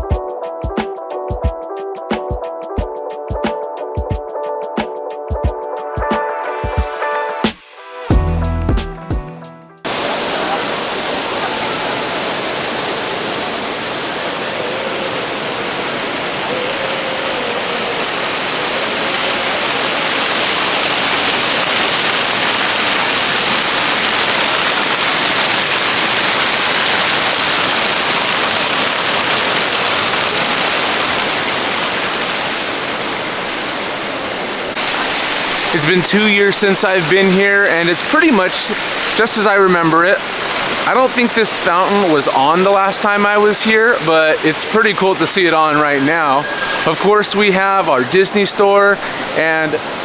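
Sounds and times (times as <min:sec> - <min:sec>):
fountain splashing: 0:09.9 - 0:50.0.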